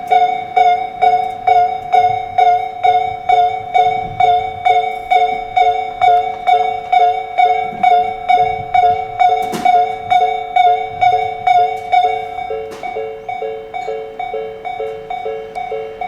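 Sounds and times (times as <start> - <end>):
level-crossing alarm two-tone ding: 0.0 - 16.0.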